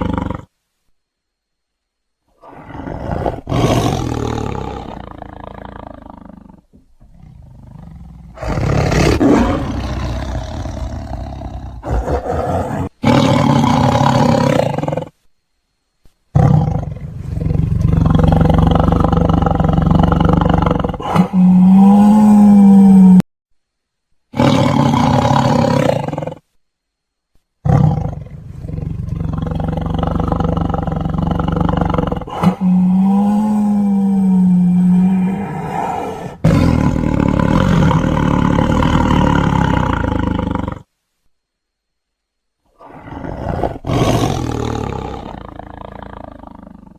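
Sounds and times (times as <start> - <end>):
big cats roaring and growling: 0.0 - 0.5, 2.4 - 15.2, 16.4 - 23.2, 24.3 - 26.4, 27.6 - 40.9, 42.7 - 46.9.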